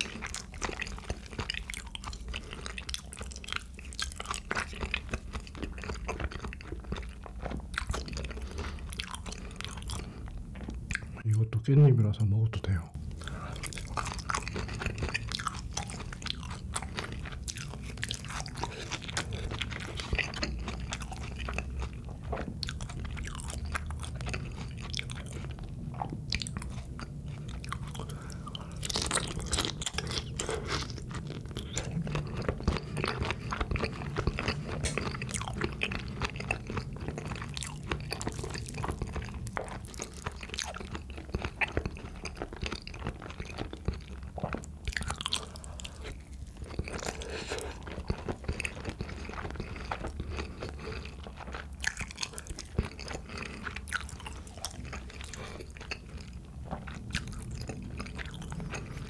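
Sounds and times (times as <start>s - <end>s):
chewing and crunching food: 0.0s - 11.6s, 12.6s - 59.0s.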